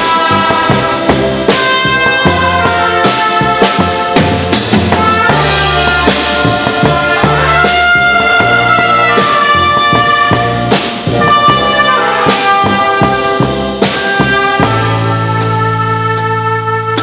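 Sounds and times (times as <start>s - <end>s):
drum kit beat: 0.0s - 17.0s
live band playing: 0.0s - 17.0s.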